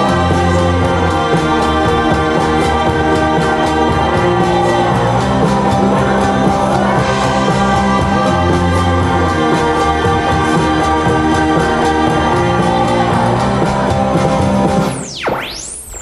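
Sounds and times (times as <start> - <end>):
song with singing over beat: 0.0 - 15.6.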